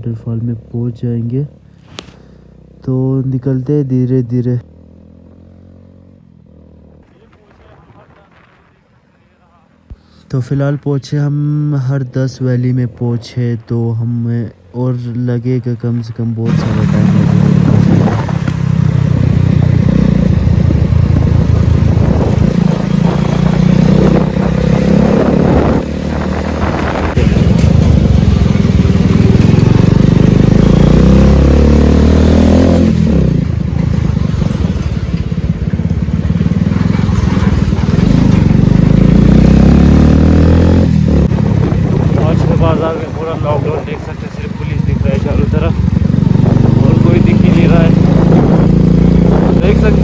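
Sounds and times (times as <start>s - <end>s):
motorcycle engine running: 0.4s - 8.5s, 16.4s - 50.0s.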